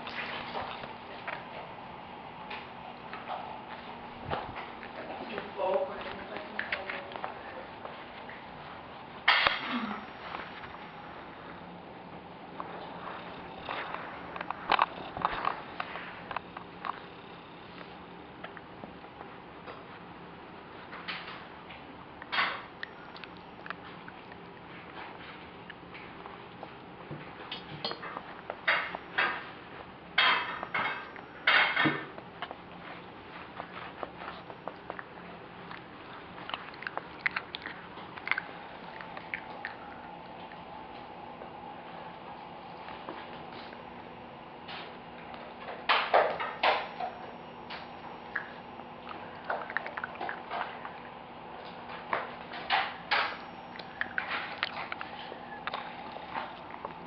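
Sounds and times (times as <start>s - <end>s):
puppy gnawing hard candy: 0.0s - 57.0s.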